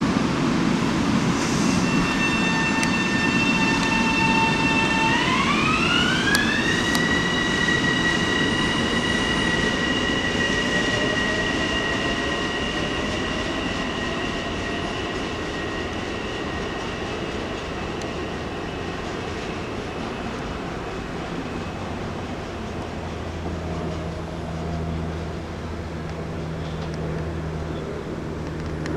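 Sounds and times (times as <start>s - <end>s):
electric train whine: 0.0s - 28.9s
train wheels rumbling: 0.0s - 28.9s
low motor whine: 0.1s - 28.9s.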